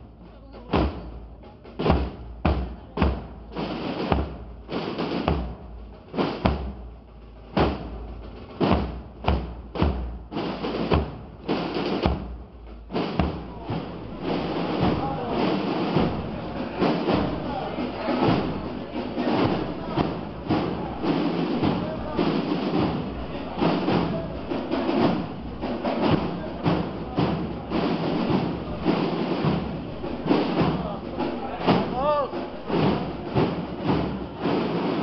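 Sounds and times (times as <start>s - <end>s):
crowd voices: 0.0s - 8.7s, 10.4s - 35.0s
procession drums beating: 0.0s - 35.0s.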